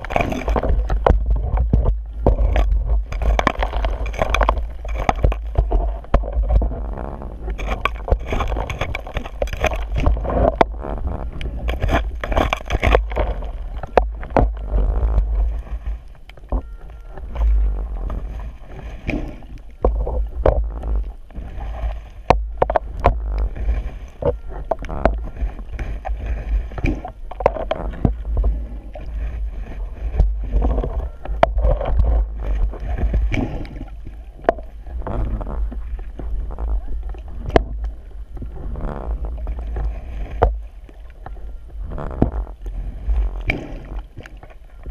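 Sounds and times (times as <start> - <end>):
low rumble of water: 0.0 - 44.9
underwater scraping and knocking: 0.0 - 44.9.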